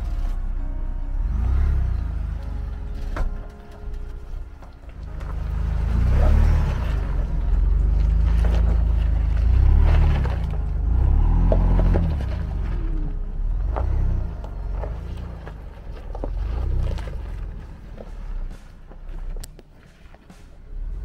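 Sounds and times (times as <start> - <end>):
truck engine revving: 0.0 - 19.5.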